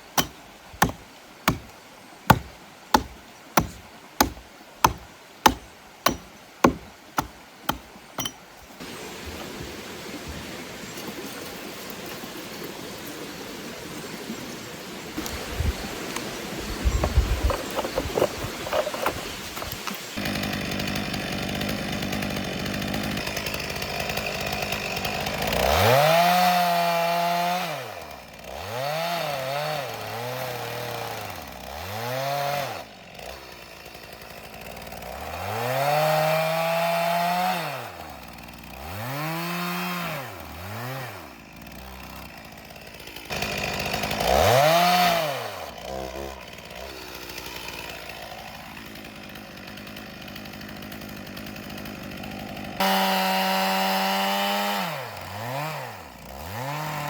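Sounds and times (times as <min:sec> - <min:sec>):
chainsaw engine revving: 0:00.2 - 0:01.7, 0:02.3 - 0:08.9, 0:17.0 - 0:57.0.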